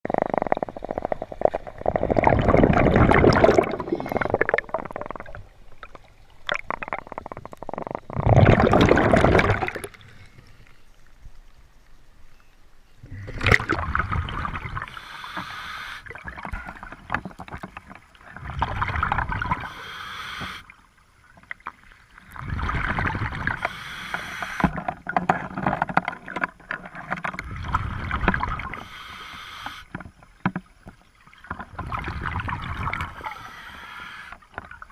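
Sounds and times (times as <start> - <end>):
bubbling exhaled air underwater: 0.0 - 10.5, 13.0 - 20.8, 22.2 - 30.2, 31.4 - 34.9.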